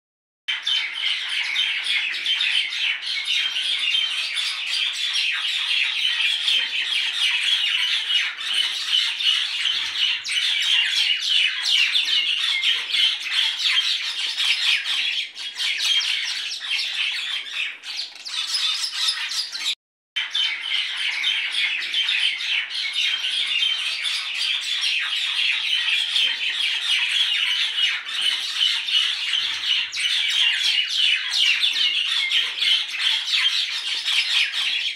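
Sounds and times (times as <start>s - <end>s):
many birds chirping: 0.5s - 34.9s.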